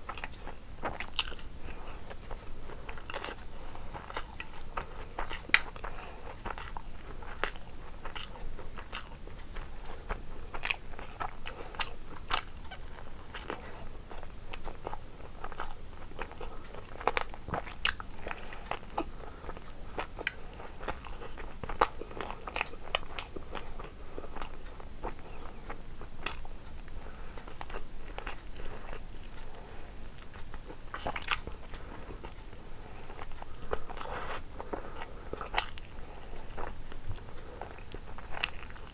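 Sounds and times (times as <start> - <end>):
person chewing and biting: 0.0 - 38.9.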